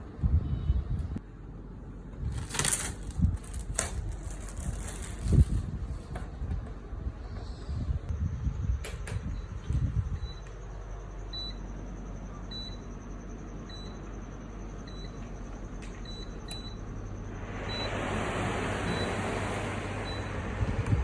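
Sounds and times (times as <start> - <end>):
air cooler fan humming: 0.0 - 21.0.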